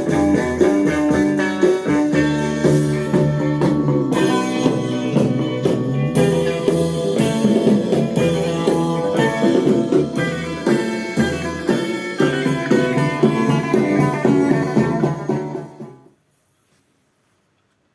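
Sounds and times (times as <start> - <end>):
recorded music with steady beat: 0.0 - 16.3.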